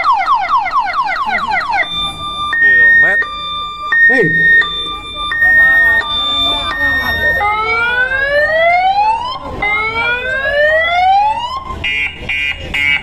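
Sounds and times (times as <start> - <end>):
electronic siren sweeps: 0.0 - 11.7
fast pulsing alarm beep: 0.1 - 10.9.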